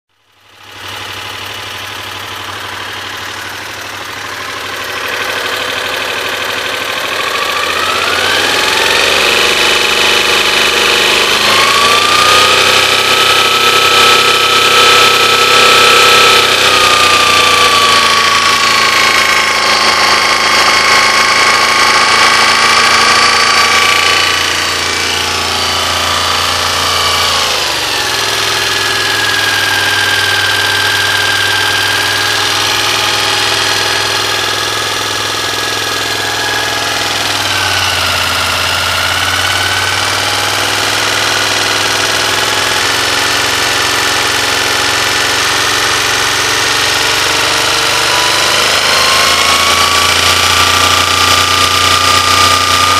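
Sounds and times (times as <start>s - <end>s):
motorcycle engine idling: 0.2s - 12.0s, 16.5s - 47.4s.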